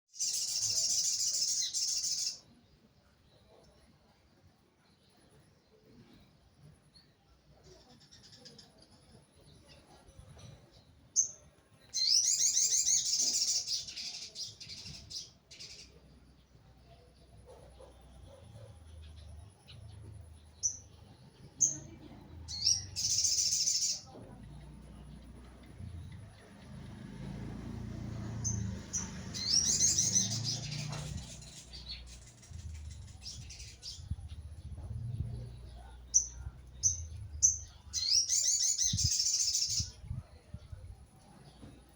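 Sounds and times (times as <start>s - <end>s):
songbird chirping: 0.1s - 41.9s.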